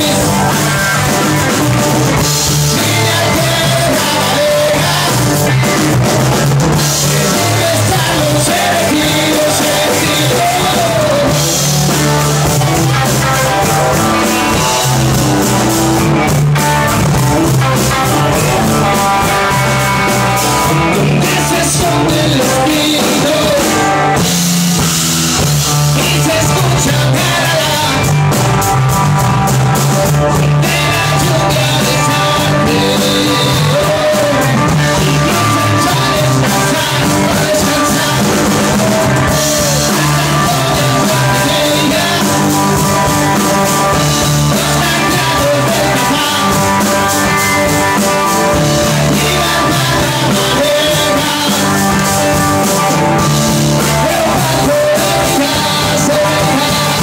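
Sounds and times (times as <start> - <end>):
man singing into a microphone: 0.0 - 15.2, 17.1 - 24.3, 25.6 - 28.5, 30.3 - 57.0
drum kit: 0.0 - 57.0
electric guitar: 0.0 - 57.0.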